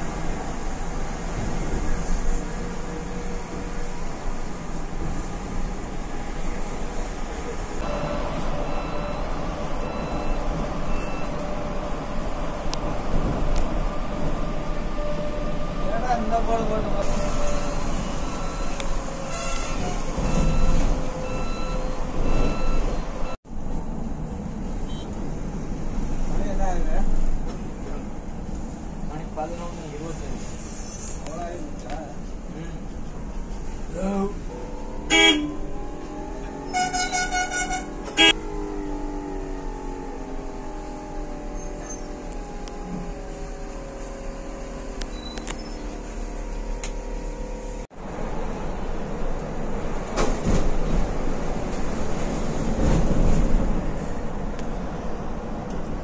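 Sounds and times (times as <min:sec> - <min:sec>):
bus road and drive noise: 0:00.0 - 0:56.0.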